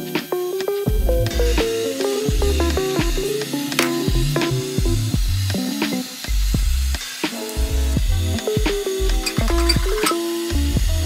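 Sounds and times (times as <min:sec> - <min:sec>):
background music with bass and drums: 0:00.0 - 0:11.0.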